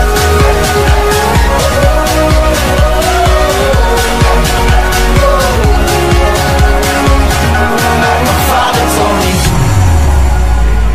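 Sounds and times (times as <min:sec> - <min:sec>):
music with heavy bass beat: 0:00.0 - 0:10.9.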